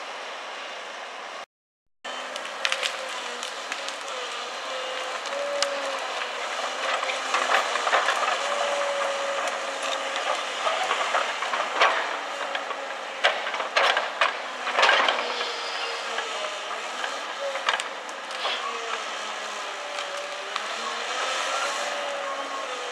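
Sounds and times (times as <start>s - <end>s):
excavator engine and hydraulics: 0.0s - 1.5s, 2.1s - 22.9s
grapple cracking through logs: 2.1s - 15.4s, 16.1s - 22.3s.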